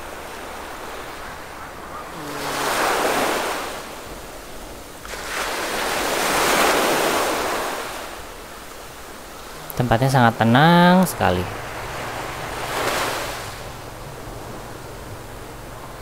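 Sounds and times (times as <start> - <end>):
small waves washing up a beach: 0.0 - 16.0.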